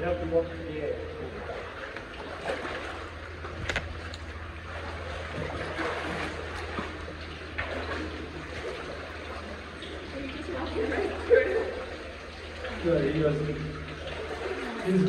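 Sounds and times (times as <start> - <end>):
footsteps wading through water: 1.0 - 15.0.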